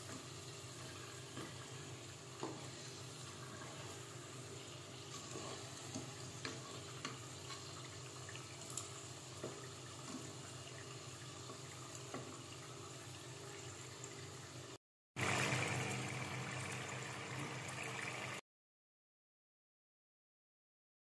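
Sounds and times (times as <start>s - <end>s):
oil bubbling and sizzling: 0.0s - 18.4s.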